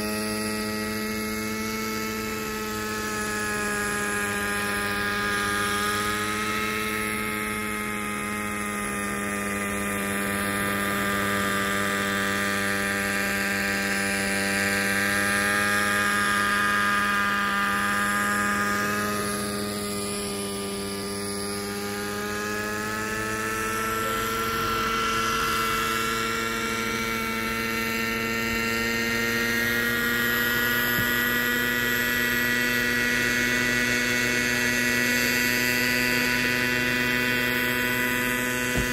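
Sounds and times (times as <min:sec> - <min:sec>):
model helicopter engine buzzing: 0:00.0 - 0:38.9.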